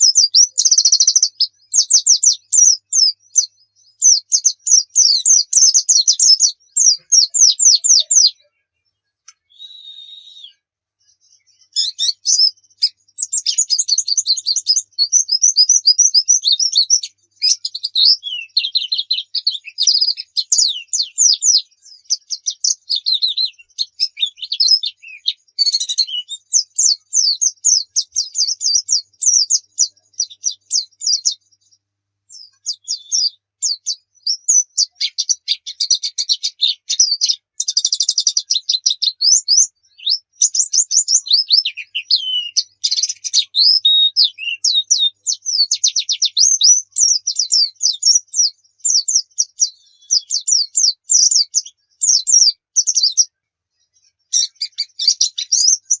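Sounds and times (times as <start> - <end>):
bird singing chirping notes: 0.0 - 56.0.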